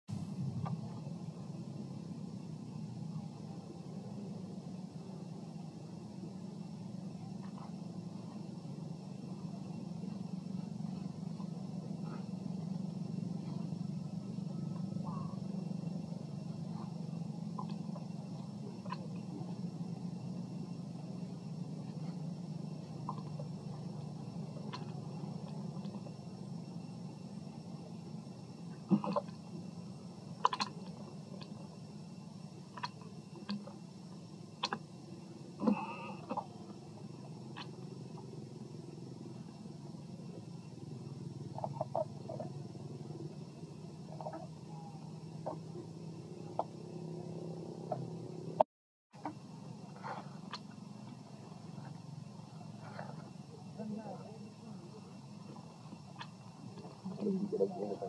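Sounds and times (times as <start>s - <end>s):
engine rumbling: 0.1s - 58.0s
faint chirps: 0.1s - 58.0s
low hum: 0.1s - 58.0s.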